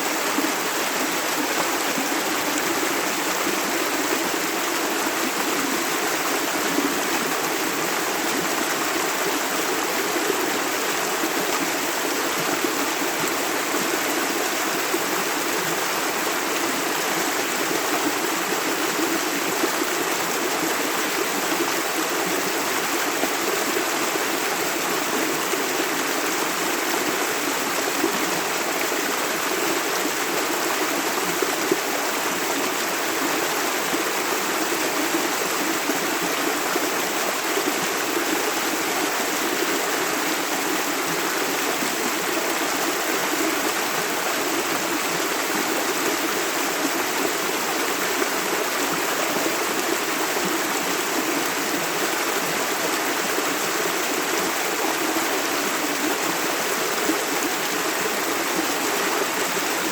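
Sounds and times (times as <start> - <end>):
river water running over stones: 0.0 - 59.9.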